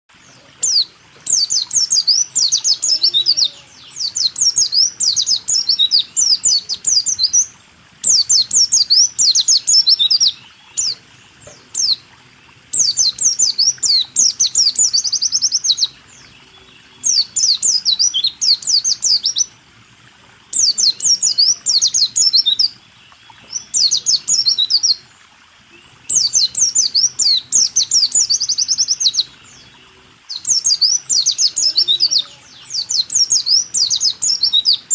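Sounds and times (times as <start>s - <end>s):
bird chirping and trilling: 0.2s - 12.0s, 12.6s - 19.6s, 20.5s - 25.1s, 25.7s - 34.9s.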